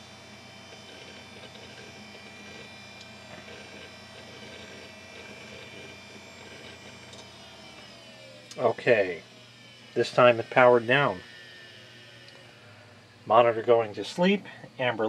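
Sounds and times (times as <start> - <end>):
computer fans and hard drive humming: 0.0 - 15.0.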